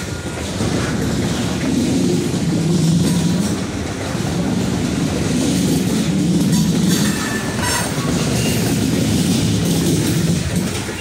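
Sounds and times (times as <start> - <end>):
train cars rolling on rails: 0.0 - 11.0.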